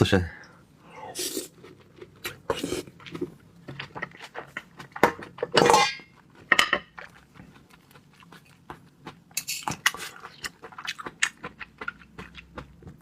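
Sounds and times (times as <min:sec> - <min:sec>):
eating sounds: 0:00.9 - 0:13.0.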